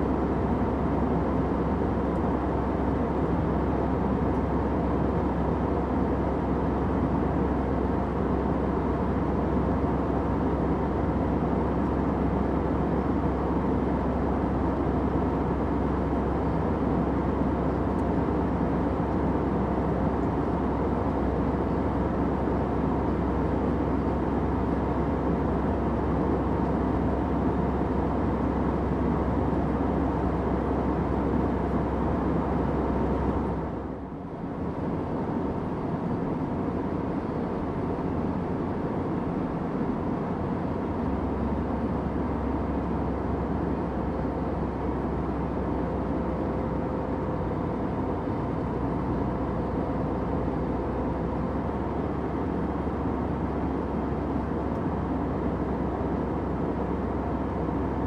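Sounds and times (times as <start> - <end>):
airplane low rumble: 0.0 - 58.0.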